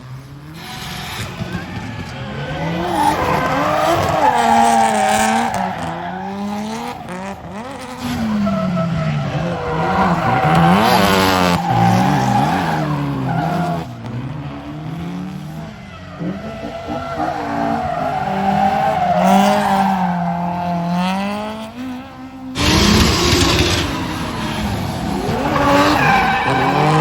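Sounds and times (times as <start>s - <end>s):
car engine revving: 0.0s - 27.0s
tires squealing and skidding: 0.4s - 27.0s.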